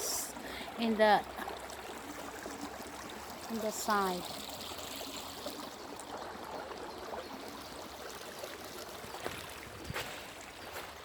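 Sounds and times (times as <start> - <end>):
stream water trickling over rocks: 0.0 - 11.0.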